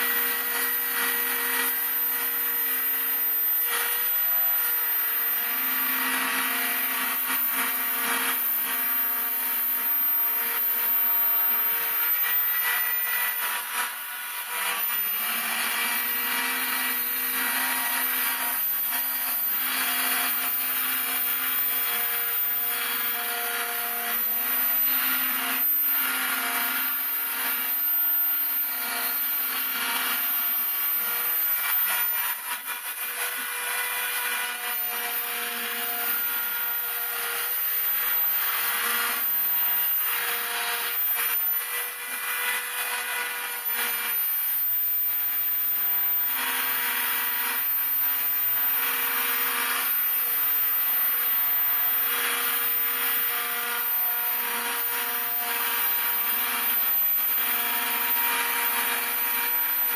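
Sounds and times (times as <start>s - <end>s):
cutter rasping in material: 0.0s - 59.9s.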